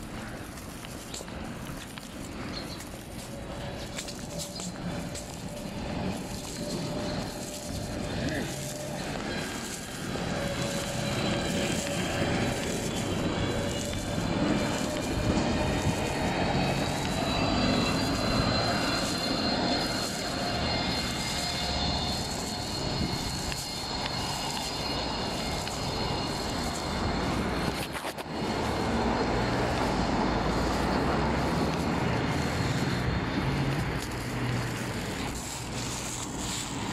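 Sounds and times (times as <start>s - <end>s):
high thin whine: 0.0s - 36.9s
wind and road noise: 0.0s - 36.9s.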